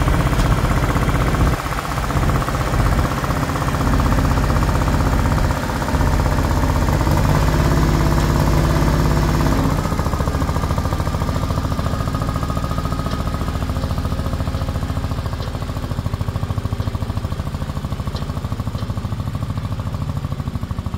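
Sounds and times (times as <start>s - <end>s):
diesel tractor engine running: 0.0s - 20.9s.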